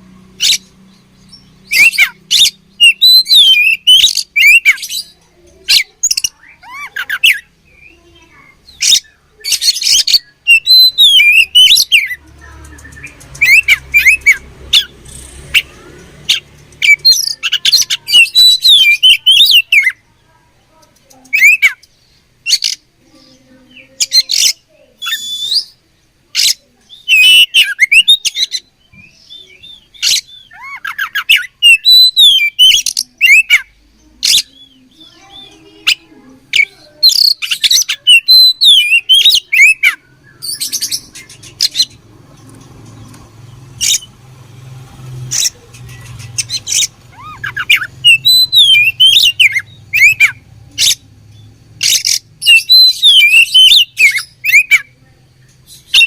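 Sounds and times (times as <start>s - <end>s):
bird singing loudly: 0.3s - 20.0s, 23.7s - 25.8s, 26.4s - 42.1s, 45.2s - 55.0s, 55.6s - 56.0s
sharp bird chips: 0.4s - 20.0s, 20.7s - 22.8s, 26.4s - 44.2s, 45.0s - 56.0s.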